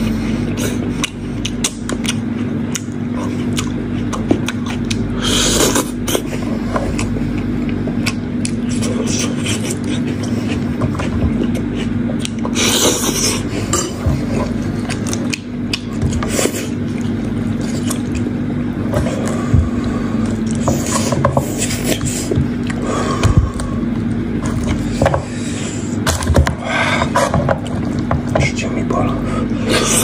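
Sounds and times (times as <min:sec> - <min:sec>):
steady low hum: 0:00.0 - 0:30.0
wet chewing and tearing meat: 0:00.1 - 0:28.4.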